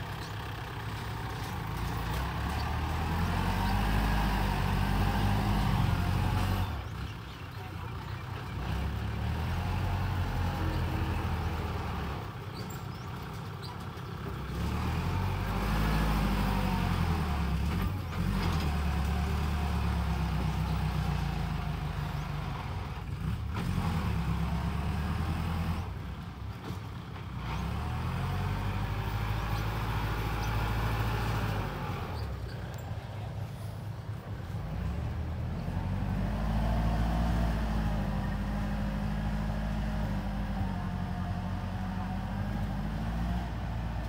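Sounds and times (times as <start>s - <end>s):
diesel tractor engine under load: 0.0s - 44.0s.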